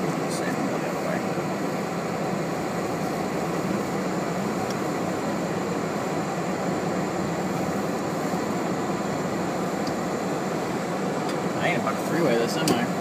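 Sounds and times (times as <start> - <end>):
car cabin hiss and rumble: 0.0 - 13.0.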